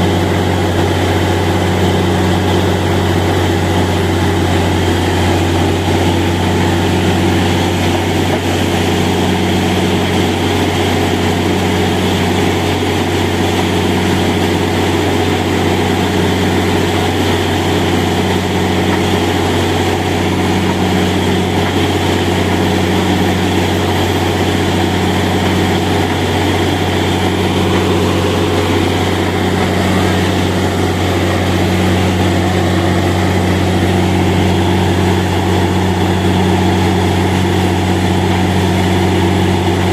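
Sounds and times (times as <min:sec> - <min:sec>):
drilling rig engine drone: 0:00.0 - 0:39.9.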